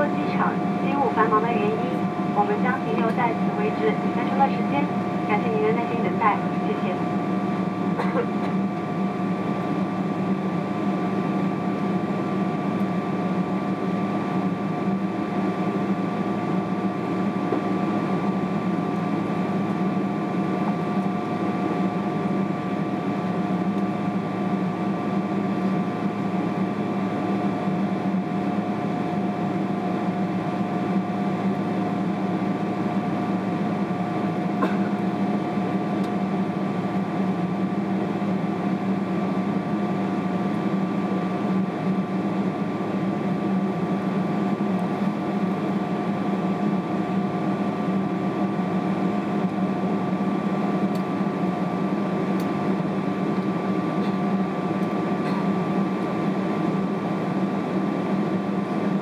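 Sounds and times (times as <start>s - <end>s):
aircraft cabin drone: 0.0s - 59.0s.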